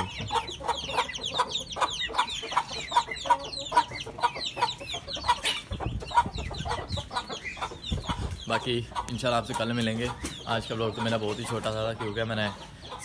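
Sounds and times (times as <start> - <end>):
chicks peeping: 0.0 - 13.0
hens clucking: 0.0 - 13.0.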